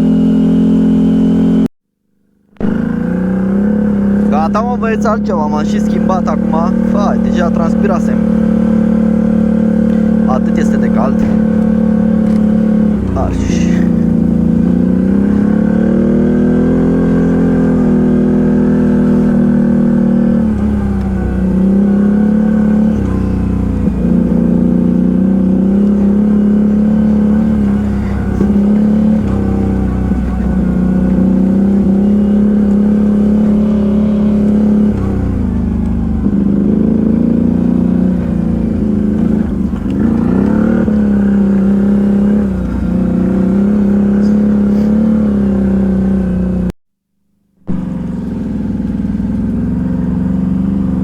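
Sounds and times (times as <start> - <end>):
quad bike engine revving: 0.0 - 1.7, 2.6 - 46.7, 47.6 - 51.0.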